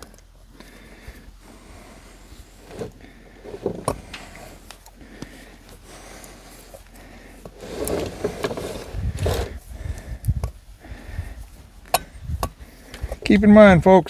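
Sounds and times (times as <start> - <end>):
scraping and rubbing on tire: 0.0 - 13.4.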